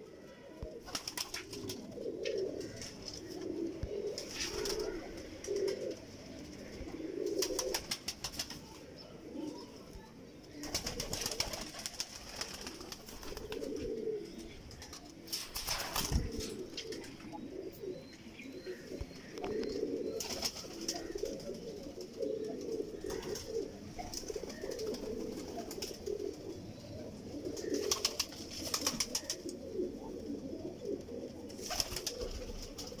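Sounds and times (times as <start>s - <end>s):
pigeons cooing: 0.0s - 33.0s.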